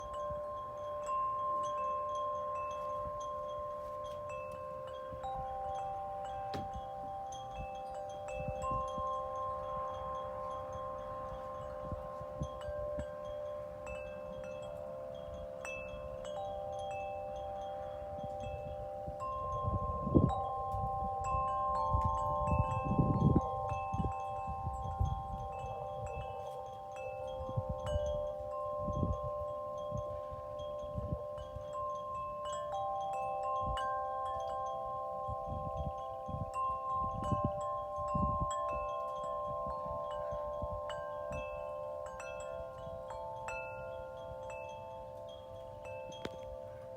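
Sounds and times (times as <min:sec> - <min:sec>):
wind chimes ringing: 0:00.0 - 0:46.9
wind gusts on microphone: 0:00.0 - 0:46.9.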